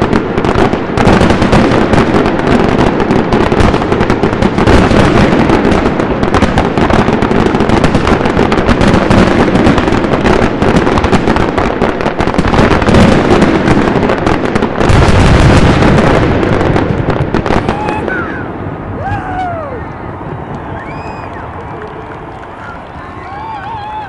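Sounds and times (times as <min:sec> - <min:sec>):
low firework booms: 0:00.0 - 0:21.4
fireworks popping and crackling: 0:00.0 - 0:24.0.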